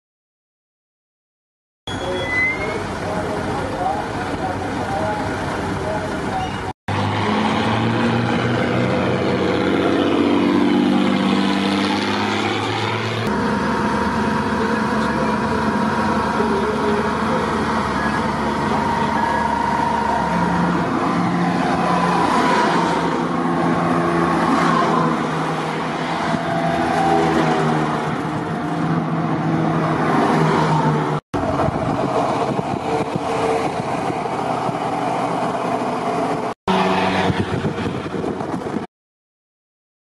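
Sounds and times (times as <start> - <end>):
high engine whine: 1.9 - 38.8
armored vehicles driving past: 2.7 - 38.8.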